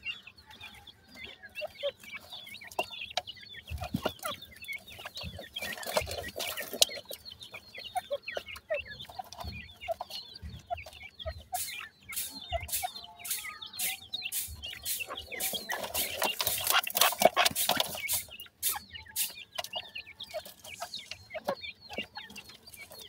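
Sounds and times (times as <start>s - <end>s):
beaks and feet clicking in dirt: 0.0s - 23.0s
chicks chirping and peeping: 0.0s - 23.0s.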